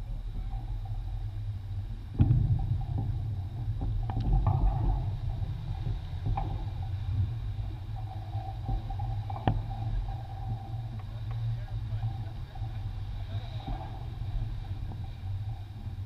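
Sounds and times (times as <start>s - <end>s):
water rushing along hull: 0.0s - 16.0s
wind on microphone: 0.0s - 16.0s.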